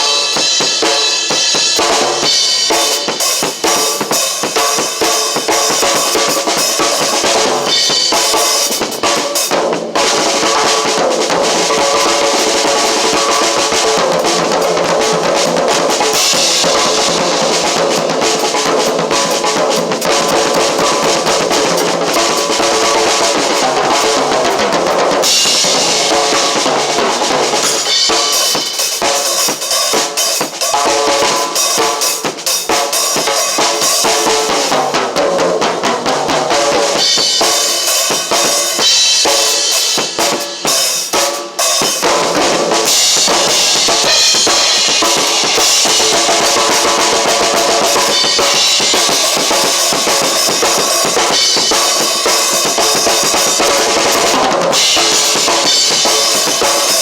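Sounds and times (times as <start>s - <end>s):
drum kit playing a groove: 0.0s - 57.0s.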